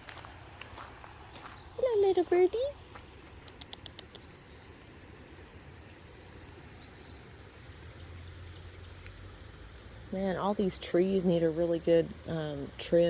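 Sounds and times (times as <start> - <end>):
faint low background noise: 0.0 - 13.0.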